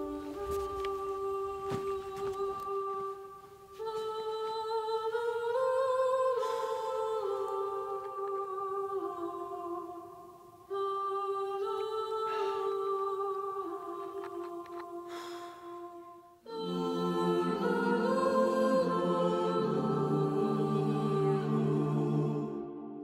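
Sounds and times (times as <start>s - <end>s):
wordless vocal melody: 0.0s - 23.0s.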